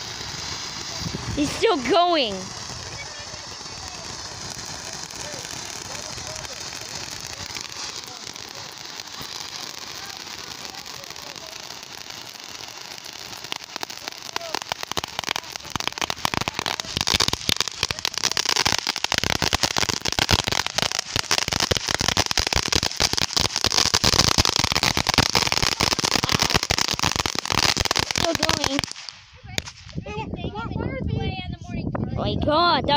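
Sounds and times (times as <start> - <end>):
ground firework crackling: 0.0 - 30.2.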